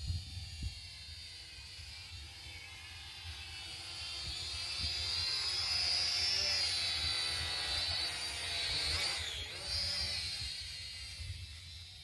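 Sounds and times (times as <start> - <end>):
toy drone propellers whining: 0.0 - 12.0.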